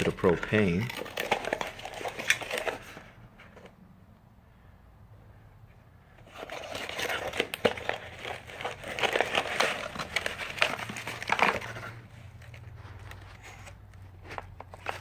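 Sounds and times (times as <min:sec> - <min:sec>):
packaging crinkling: 0:00.0 - 0:03.7, 0:06.2 - 0:15.0.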